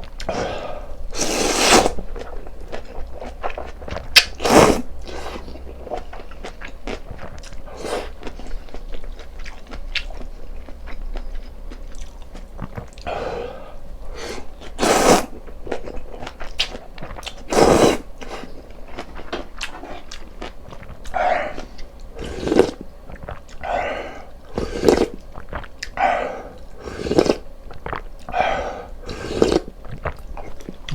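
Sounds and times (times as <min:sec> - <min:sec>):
chewing and biting: 0:01.9 - 0:13.1, 0:15.5 - 0:23.8, 0:24.5 - 0:30.9.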